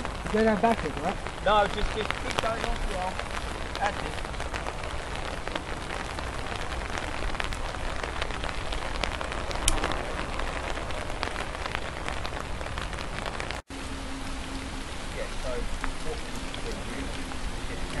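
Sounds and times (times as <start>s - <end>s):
raindrops ticking close by: 0.0s - 18.0s
steady rain: 0.0s - 18.0s.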